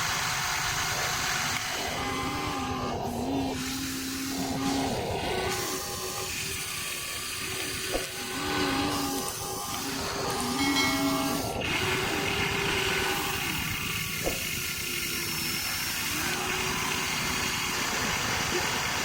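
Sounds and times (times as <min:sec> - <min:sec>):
toy excavator motors whining: 0:00.0 - 0:19.0.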